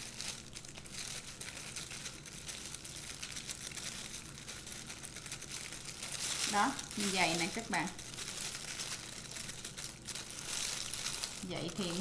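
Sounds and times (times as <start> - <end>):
plastic gloves crinkling: 0.0 - 12.0.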